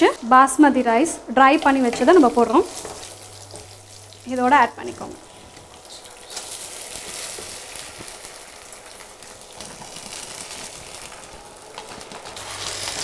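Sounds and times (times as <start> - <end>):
rice sizzling in hot oil: 1.5 - 13.0.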